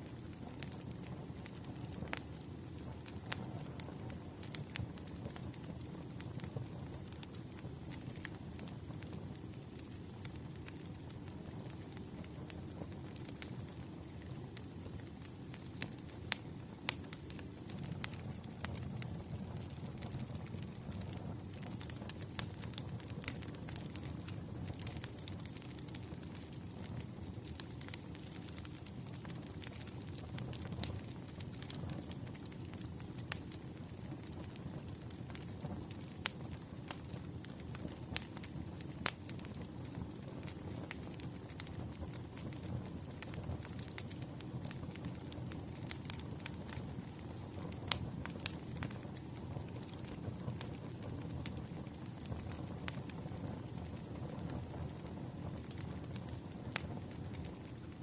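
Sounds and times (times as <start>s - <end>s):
firewood crackling and popping: 0.0s - 58.0s
low rumble of flames: 0.0s - 58.0s.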